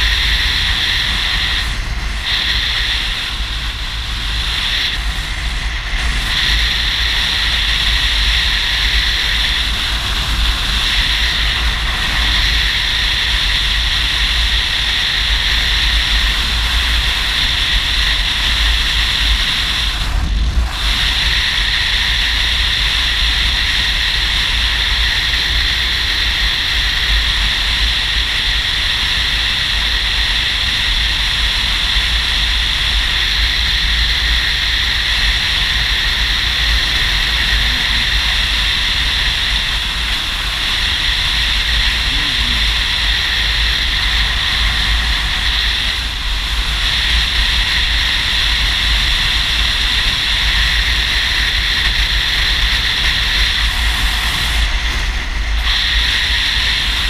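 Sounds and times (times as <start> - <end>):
motorcycle engine and road noise: 0.0 - 57.0
wind rushing on microphone: 0.0 - 57.0.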